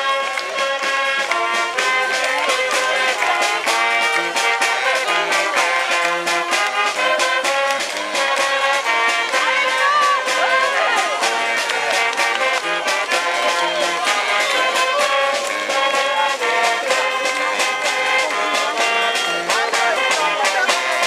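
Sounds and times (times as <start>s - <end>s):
brass swing music: 0.0s - 21.0s.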